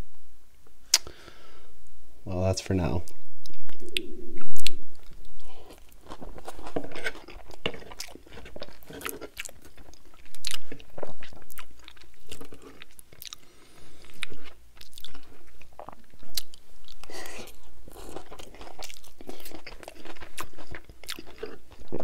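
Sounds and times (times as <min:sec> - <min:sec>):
close chewing with mouth clicks: 0:03.4 - 0:22.0.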